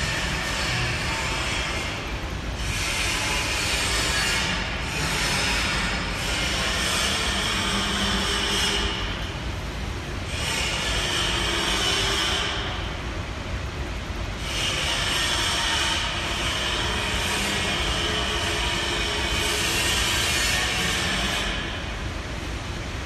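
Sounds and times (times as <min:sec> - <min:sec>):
machine mechanical rumble: 0:00.0 - 0:23.0.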